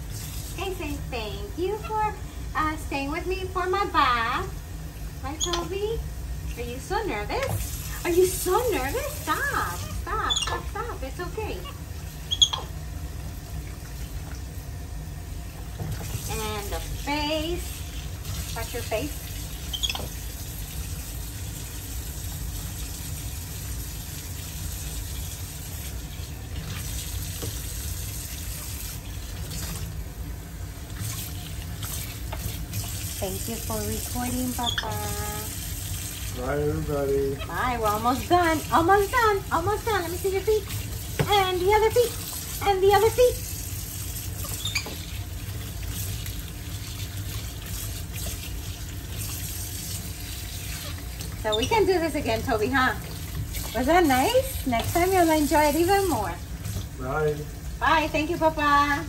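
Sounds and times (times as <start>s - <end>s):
faucet water splashing into sink: 3.6s - 59.0s.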